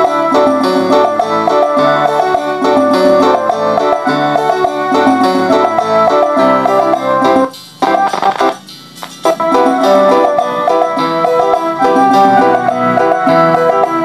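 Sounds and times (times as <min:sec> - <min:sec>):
music through bare speaker: 0:00.0 - 0:14.0.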